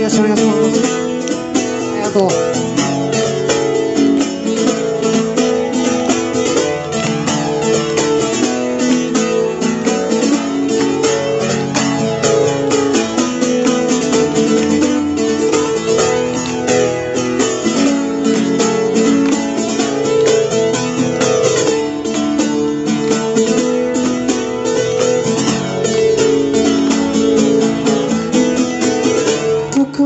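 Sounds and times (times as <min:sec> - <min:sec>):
guitar strumming chords: 0:00.0 - 0:30.0.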